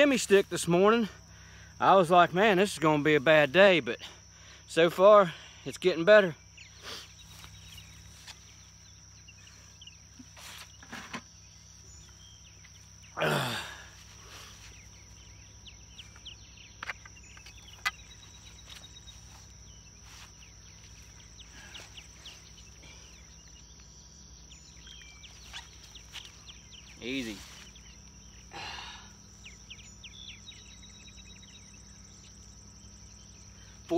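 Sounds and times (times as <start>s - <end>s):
faint chirps: 0.0s - 33.9s
high insect drone: 0.0s - 33.9s.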